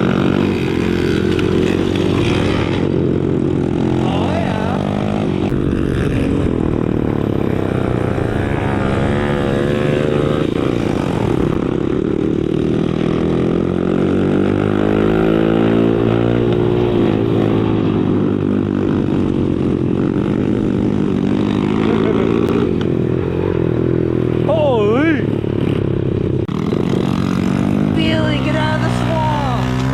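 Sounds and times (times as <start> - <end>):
pit bike engines revving: 0.0 - 29.9.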